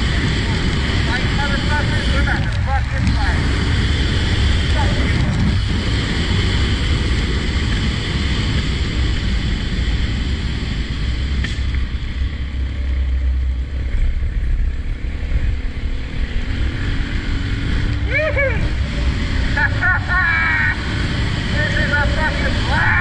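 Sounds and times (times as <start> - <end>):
motorcycle engine rumble: 0.0 - 23.0.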